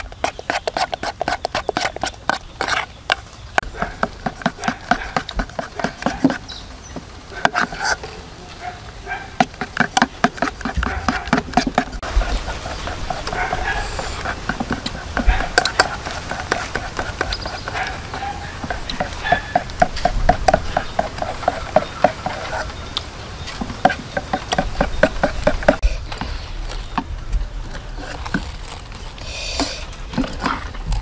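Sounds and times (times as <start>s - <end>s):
batter mixed in metal pot: 0.0s - 8.0s, 9.4s - 22.9s, 23.5s - 27.2s.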